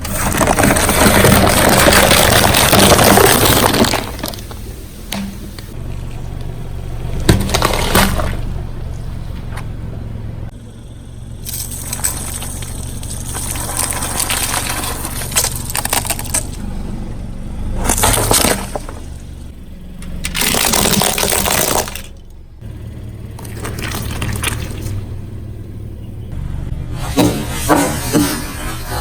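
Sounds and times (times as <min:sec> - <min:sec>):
objects crunching under car tyre: 0:00.0 - 0:10.6, 0:11.4 - 0:17.0, 0:17.6 - 0:25.3
low steady hum: 0:00.0 - 0:29.0.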